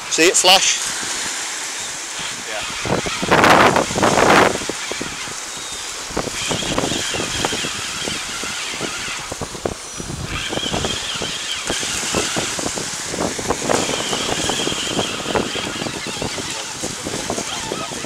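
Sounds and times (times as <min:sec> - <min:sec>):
surf washing in: 0:00.0 - 0:18.0
fishing reel whirring: 0:00.1 - 0:18.0
wind buffeting microphone: 0:00.8 - 0:18.0.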